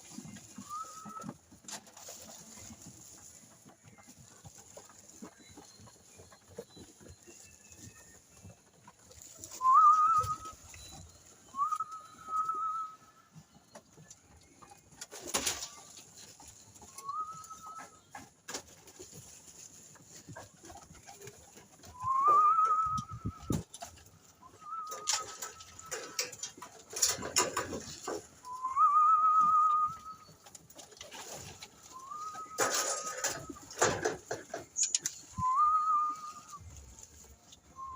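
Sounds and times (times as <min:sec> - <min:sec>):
rustling: 0:00.0 - 0:37.9.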